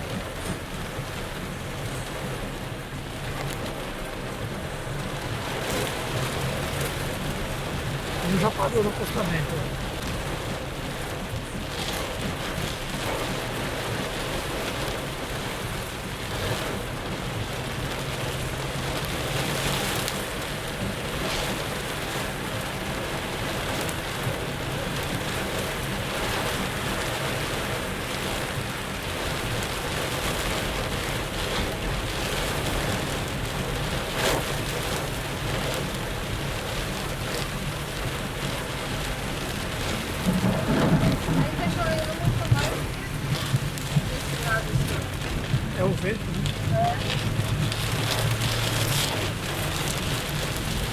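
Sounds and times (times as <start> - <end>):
engine and road hum: 0.0 - 50.9
heavy rain on car: 0.0 - 50.9.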